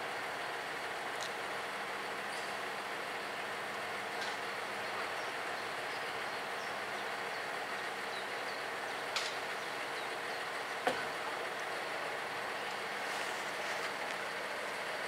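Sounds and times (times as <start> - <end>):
diesel railcar idling: 0.0 - 15.0.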